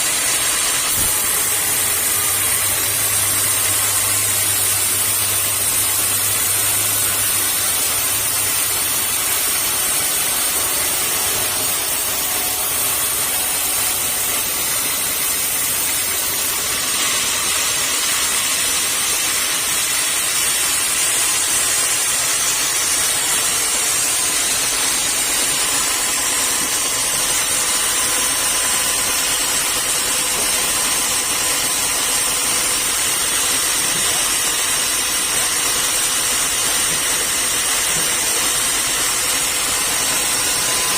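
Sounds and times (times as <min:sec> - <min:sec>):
sawmill saw cutting timber: 0:00.0 - 0:40.9.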